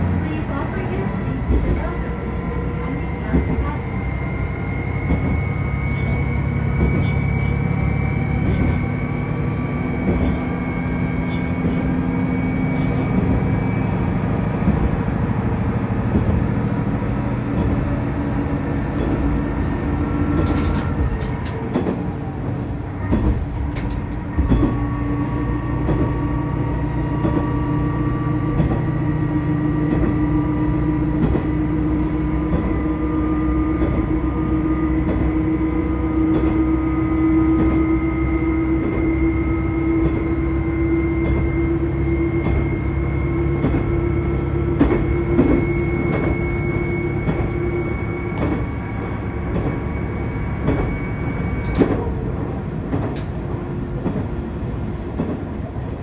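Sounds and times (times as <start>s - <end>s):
railcar engine drone: 0.0s - 56.0s.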